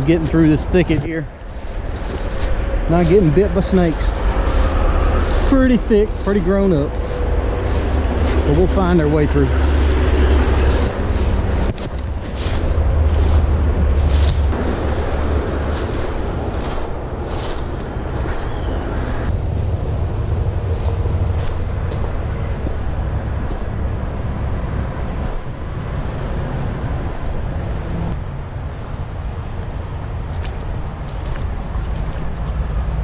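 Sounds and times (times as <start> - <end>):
footsteps through undergrowth: 0.0 - 25.6, 28.4 - 32.9
steady low rumble: 0.0 - 33.0.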